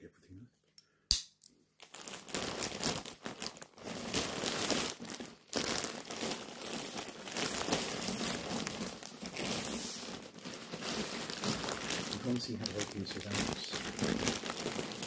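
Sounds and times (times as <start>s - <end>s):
plastic bag crinkling: 1.8s - 15.0s.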